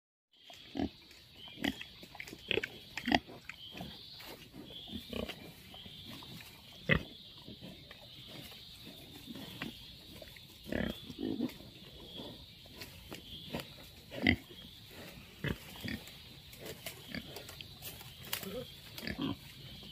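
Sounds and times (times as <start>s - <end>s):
pigs grunting: 0.5s - 19.9s.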